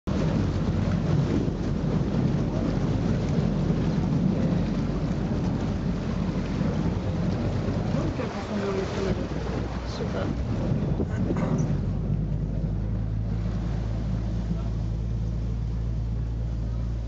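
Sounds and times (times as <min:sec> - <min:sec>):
boat engine rumble: 0:00.0 - 0:17.0
wind buffeting microphone: 0:00.1 - 0:17.0.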